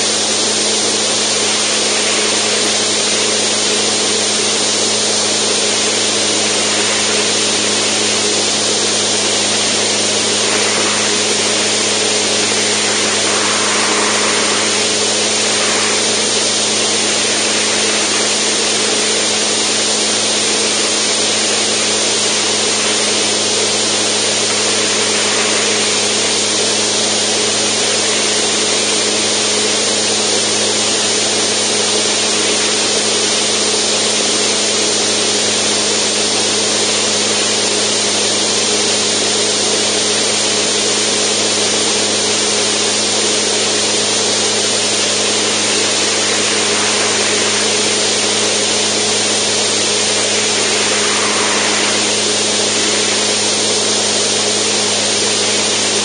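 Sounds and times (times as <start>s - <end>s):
wind rush on microphone: 0.0s - 34.0s, 43.0s - 56.0s
light aircraft engine droning: 0.0s - 56.0s.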